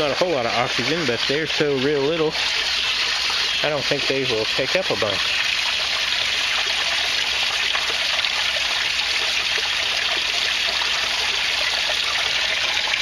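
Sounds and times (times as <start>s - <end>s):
water pouring into a tank: 0.0s - 13.0s.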